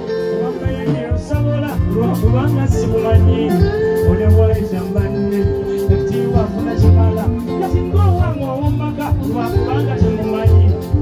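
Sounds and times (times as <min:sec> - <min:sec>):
live band music with bass: 0:00.0 - 0:11.0
man singing into a microphone: 0:00.0 - 0:11.0.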